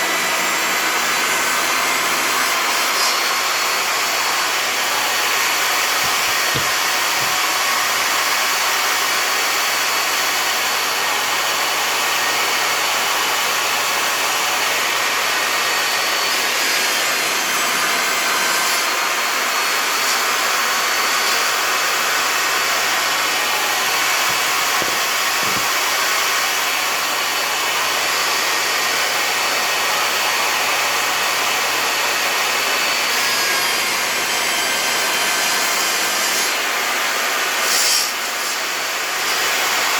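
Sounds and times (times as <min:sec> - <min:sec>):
table saw ripping wood: 0:00.0 - 0:39.9.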